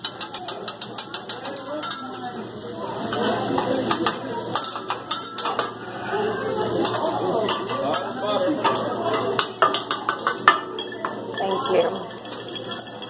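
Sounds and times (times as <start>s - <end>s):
spatula and knife clinking on griddle: 0.0s - 5.8s, 6.7s - 13.0s.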